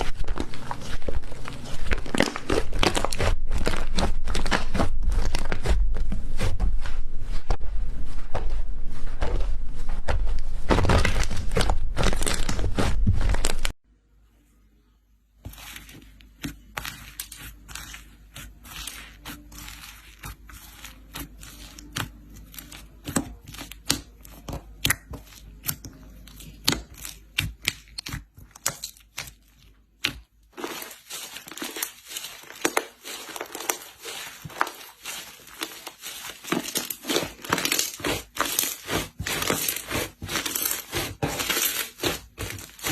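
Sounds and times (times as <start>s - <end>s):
slime crackling and popping: 0.1s - 5.8s, 10.7s - 13.7s, 15.5s - 42.9s.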